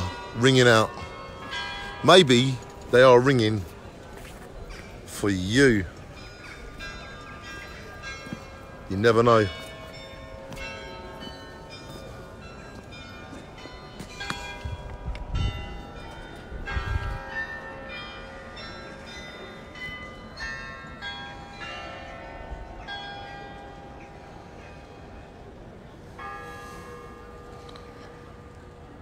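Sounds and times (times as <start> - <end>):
bells ringing: 0.0 - 29.0.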